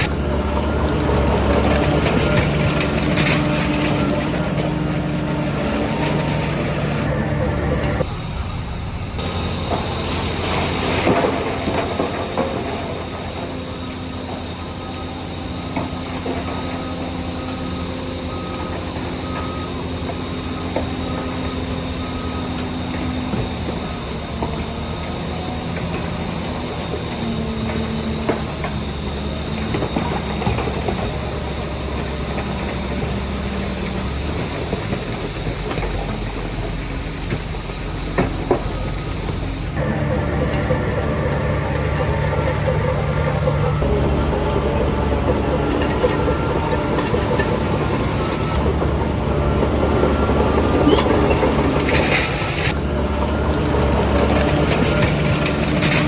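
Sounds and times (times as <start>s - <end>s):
bulldozer diesel engine: 0.0s - 56.0s
crawler tracks clanking and squeaking: 0.0s - 56.0s.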